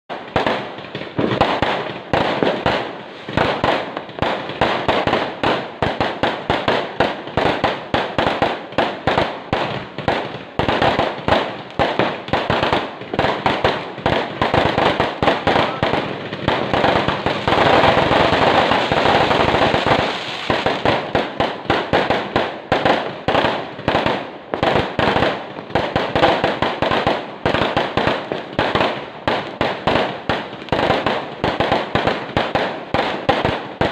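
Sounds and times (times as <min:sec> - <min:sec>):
fireworks banging and popping: 0:00.1 - 0:33.9.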